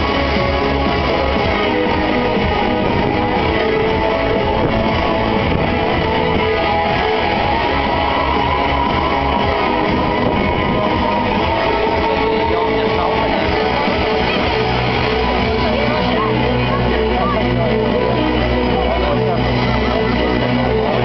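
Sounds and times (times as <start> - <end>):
loud dance music: 0.0 - 21.0.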